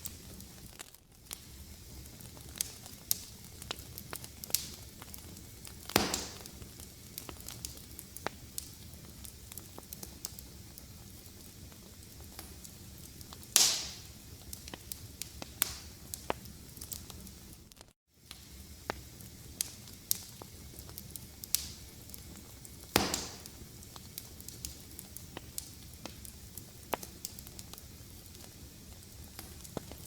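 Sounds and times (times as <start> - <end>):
loud fire pops: 0.0 - 17.5, 18.3 - 30.0
fire crackling in a fireplace: 0.0 - 30.0.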